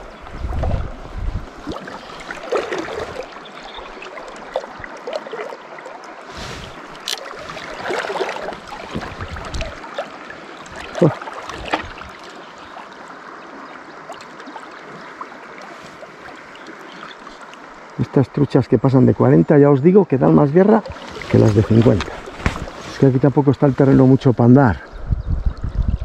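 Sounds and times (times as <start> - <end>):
water splashing: 0.0 - 18.0, 20.4 - 24.0
river water running: 0.0 - 25.0.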